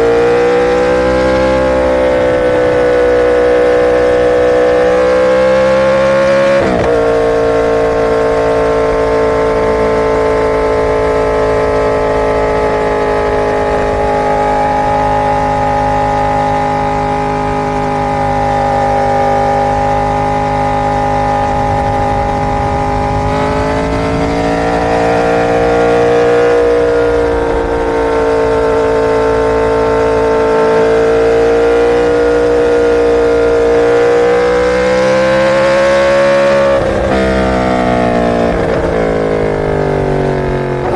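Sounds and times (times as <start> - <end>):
motorcycle engine running high: 0.0 - 40.9.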